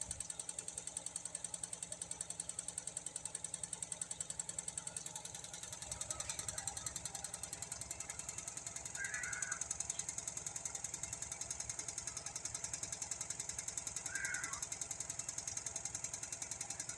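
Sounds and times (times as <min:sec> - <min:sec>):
spin dryer rattling: 0:00.0 - 0:16.9.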